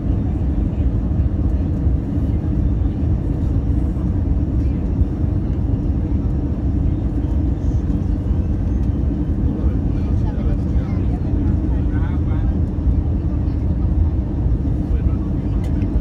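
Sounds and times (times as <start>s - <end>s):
aircraft cabin engine rumble: 0.0s - 16.0s.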